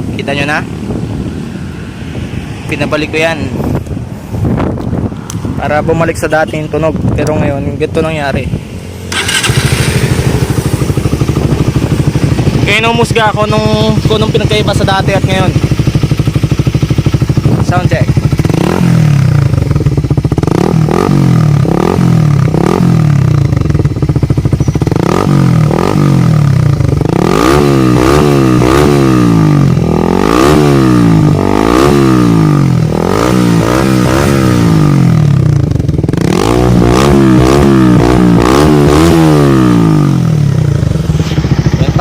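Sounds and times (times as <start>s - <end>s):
motorcycle engine idling and revving: 0.0s - 42.0s.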